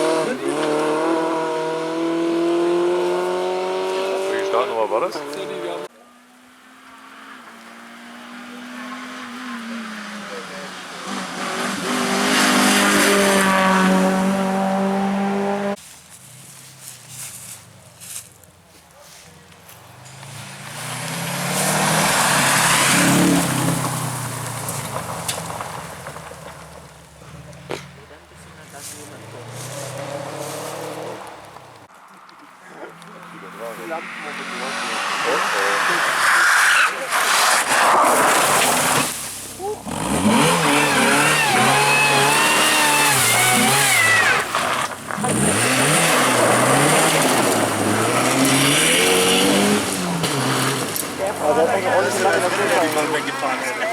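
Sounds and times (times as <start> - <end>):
rally car passing at speed: 0.0 - 15.8, 19.8 - 27.6, 28.3 - 31.8, 32.7 - 53.9.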